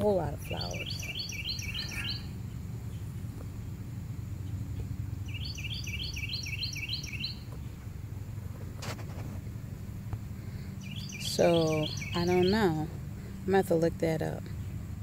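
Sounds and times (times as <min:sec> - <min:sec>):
songbird chirping: 0:00.0 - 0:08.6, 0:09.8 - 0:15.0
low outdoor rumble: 0:00.0 - 0:15.0.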